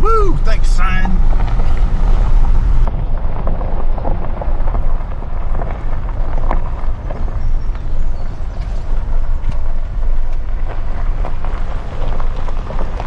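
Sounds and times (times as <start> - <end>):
car driving low rumble: 0.0 - 13.0
wind buffeting microphone: 0.0 - 13.0.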